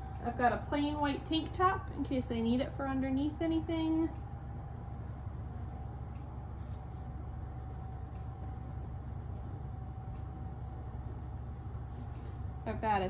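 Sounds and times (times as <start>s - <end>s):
appliance humming: 0.0s - 13.0s
clothes rustling: 2.0s - 13.0s.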